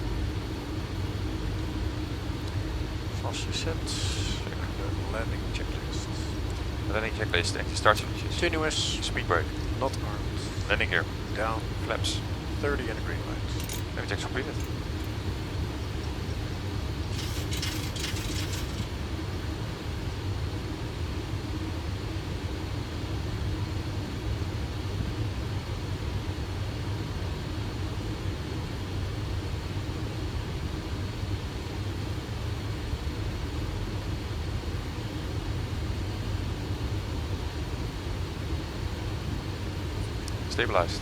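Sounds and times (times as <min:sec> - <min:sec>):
aircraft cockpit airflow and engines: 0:00.0 - 0:41.0.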